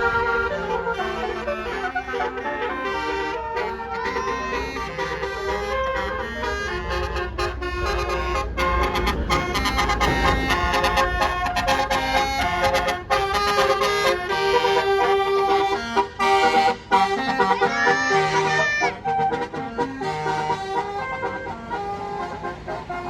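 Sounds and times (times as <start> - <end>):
bus engine rumbling: 0.0 - 23.0
bus horn playing melody: 0.0 - 23.0.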